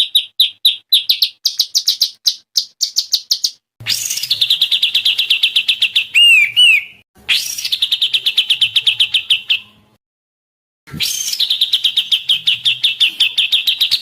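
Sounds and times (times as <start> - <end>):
songbird trilling and whistling: 0.0 - 9.8, 10.9 - 14.0.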